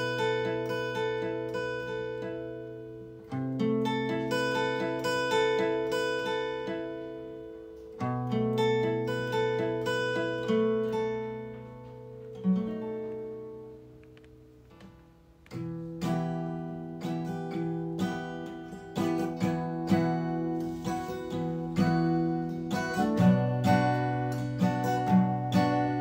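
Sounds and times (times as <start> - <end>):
picked guitar notes: 0.0 - 26.0
strummed guitar chords: 0.0 - 26.0.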